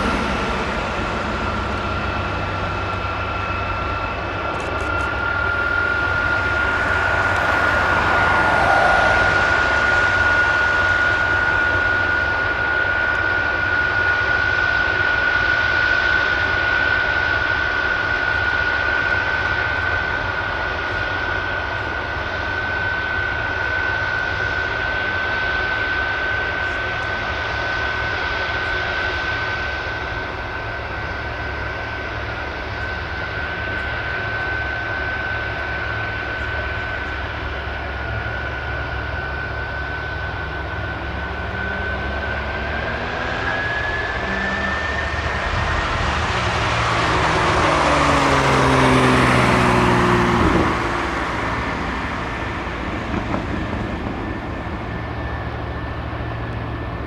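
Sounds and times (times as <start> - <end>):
jet engines whining and roaring: 0.0 - 57.0.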